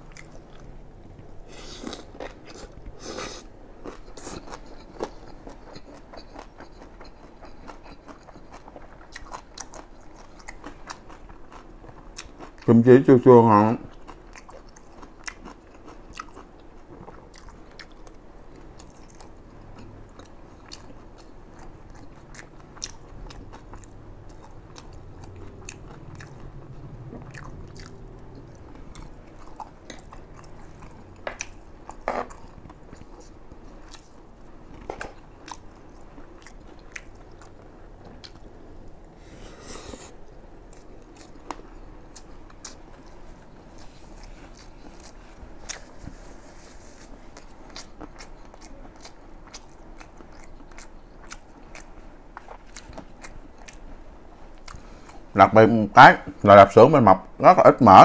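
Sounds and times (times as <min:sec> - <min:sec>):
wet chewing and smacking: 0:00.1 - 0:02.9, 0:03.8 - 0:12.7, 0:13.9 - 0:39.1, 0:40.2 - 0:55.3.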